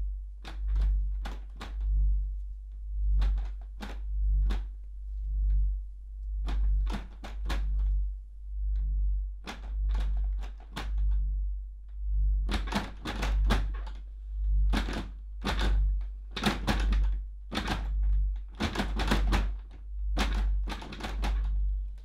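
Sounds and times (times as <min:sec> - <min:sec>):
throbbing bass drone: 0:00.0 - 0:22.0.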